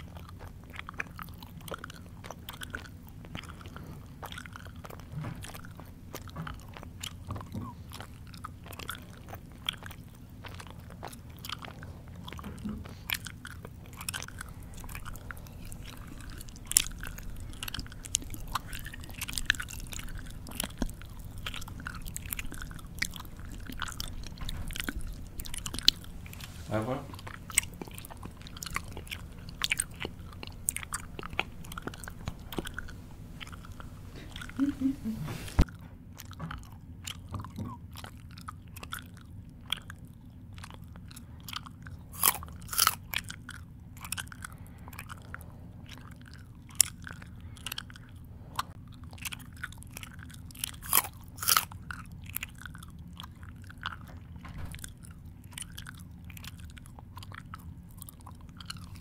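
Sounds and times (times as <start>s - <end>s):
mouth chewing and smacking: 0.0s - 59.0s.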